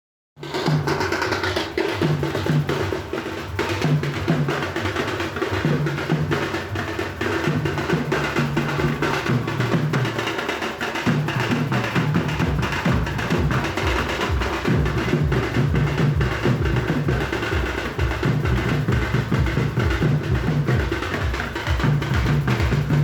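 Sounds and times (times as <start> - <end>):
dhol drums playing fast beat: 0.4 - 23.0.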